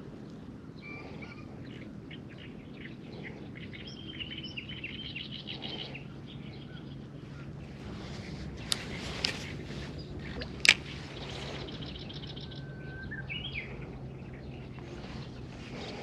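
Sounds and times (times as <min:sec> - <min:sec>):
birds calling: 0:00.0 - 0:16.0
low hum: 0:00.0 - 0:16.0
whistled bird calls: 0:00.8 - 0:07.5, 0:08.6 - 0:15.4.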